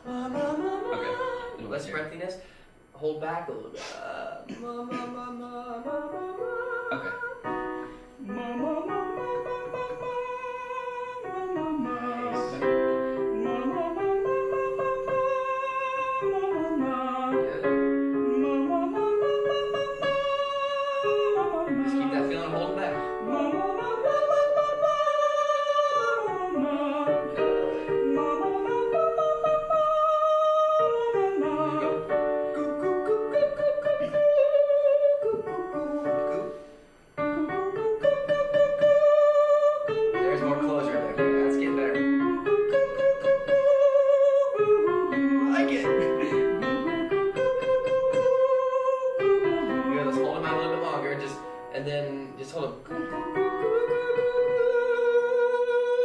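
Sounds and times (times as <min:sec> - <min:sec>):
piano chords: 0:00.0 - 0:03.2, 0:04.3 - 0:56.0
man singing vocal exercise: 0:03.8 - 0:07.5, 0:08.2 - 0:35.7, 0:37.4 - 0:56.0.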